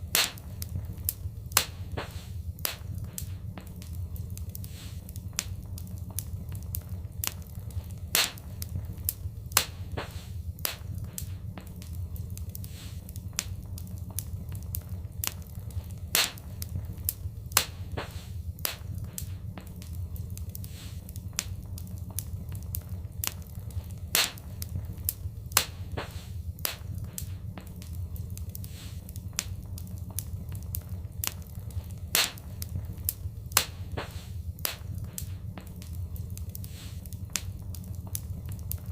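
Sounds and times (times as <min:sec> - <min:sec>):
fireplace fire crackling: 0:00.0 - 0:38.9.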